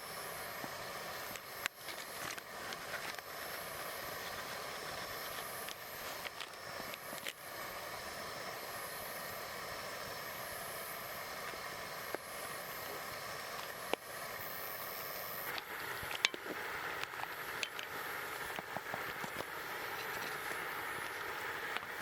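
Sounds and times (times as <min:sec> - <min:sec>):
steady hiss: 0:00.0 - 0:22.0
campfire crackling: 0:00.1 - 0:22.0.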